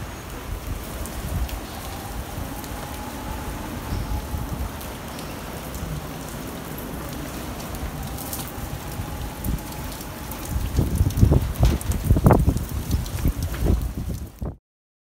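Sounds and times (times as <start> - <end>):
rain hissing on wet pavement: 0.0 - 14.6
wind gusts hitting microphone: 0.0 - 14.6.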